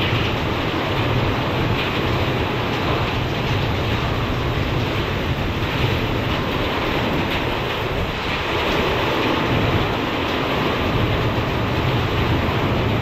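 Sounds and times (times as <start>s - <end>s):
heavy rain pounding on glass: 0.0s - 13.0s
low wind rumble: 0.0s - 13.0s.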